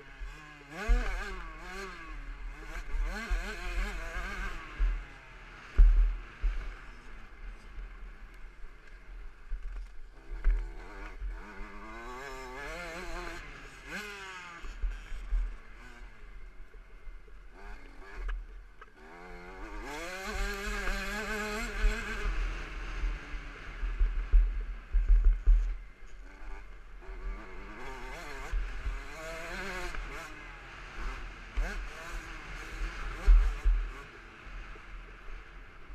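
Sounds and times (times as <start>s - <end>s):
two-stroke engine revving: 0.0s - 7.4s, 10.2s - 16.2s, 17.5s - 18.4s, 19.0s - 34.2s.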